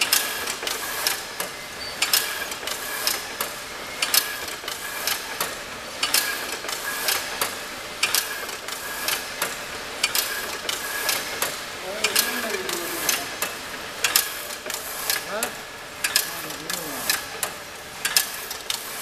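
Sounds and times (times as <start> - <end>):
weaving machine metallic clatter: 0.0 - 19.0.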